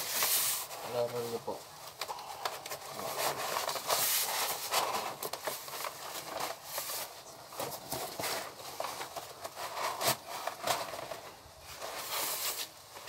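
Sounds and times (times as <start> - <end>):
cardboard rustling and crackling: 0.0 - 13.0.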